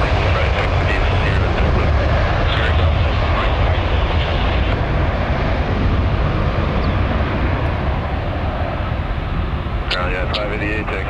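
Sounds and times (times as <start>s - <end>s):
jet airliner engines roaring: 0.0s - 11.0s.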